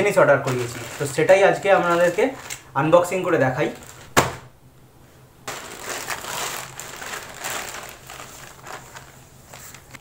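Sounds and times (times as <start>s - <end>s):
plastic mailer bag crinkling and tearing: 0.0s - 4.3s, 5.5s - 10.0s.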